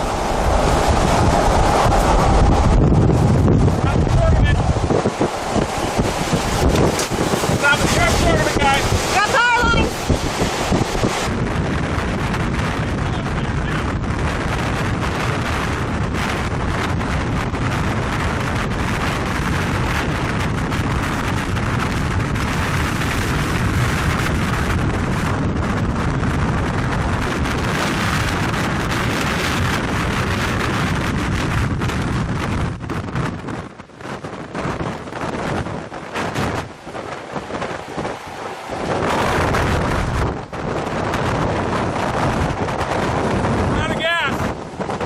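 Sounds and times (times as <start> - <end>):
strong wind on microphone: 0.0 - 45.0.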